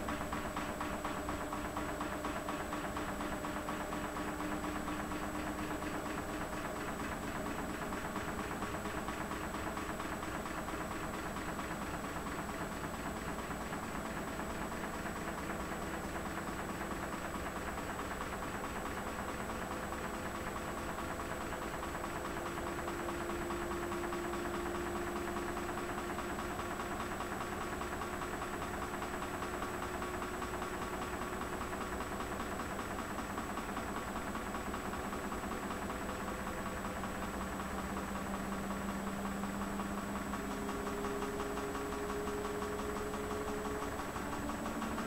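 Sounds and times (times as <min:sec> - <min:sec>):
washing machine running: 0:00.0 - 0:45.0.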